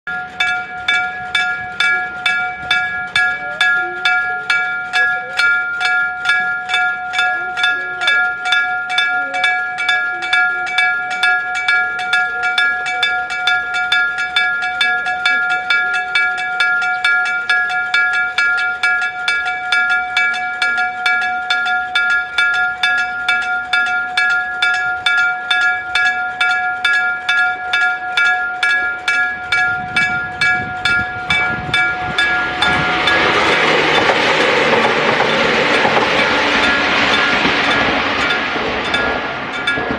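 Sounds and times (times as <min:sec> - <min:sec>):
level crossing bell ringing: 0:00.1 - 0:39.9.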